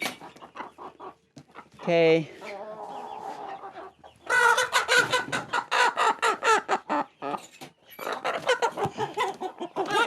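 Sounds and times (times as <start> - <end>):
chickens clucking and squawking: 0.0 - 10.0.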